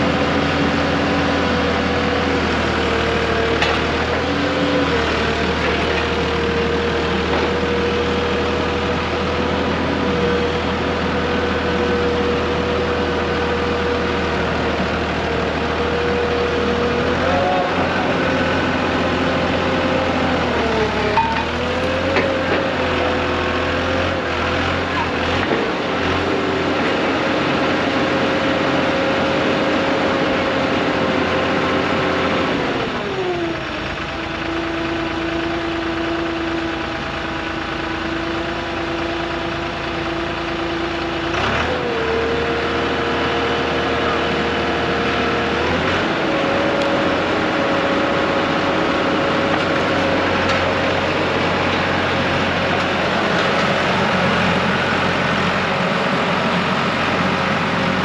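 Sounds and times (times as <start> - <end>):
heavy diesel engine under load: 0.0 - 58.0.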